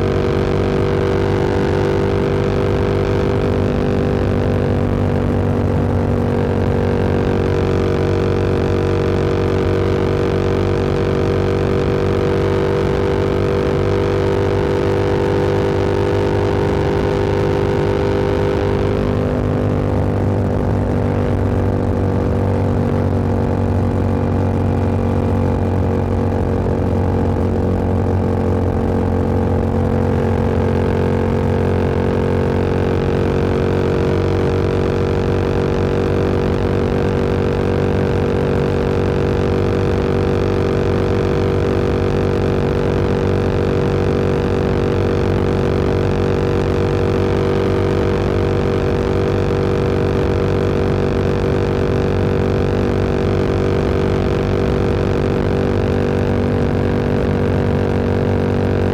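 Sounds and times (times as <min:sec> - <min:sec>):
motorcycle engine: 0:00.0 - 0:58.9
wind rush on microphone: 0:00.0 - 0:58.9.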